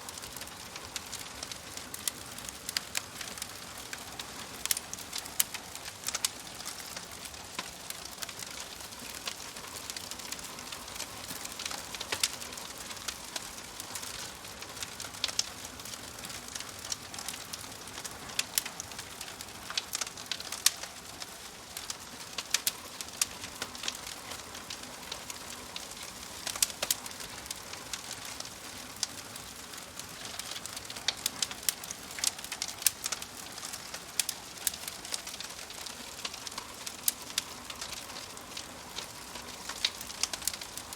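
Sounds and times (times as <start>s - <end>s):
fire crackling and popping: 0.0s - 40.9s
fire hissing: 0.1s - 40.9s.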